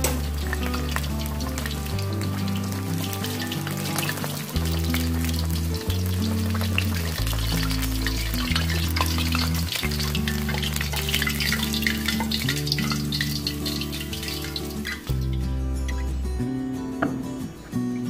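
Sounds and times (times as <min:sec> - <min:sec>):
oil sizzling and crackling: 0:00.0 - 0:16.3
background music: 0:00.0 - 0:18.0.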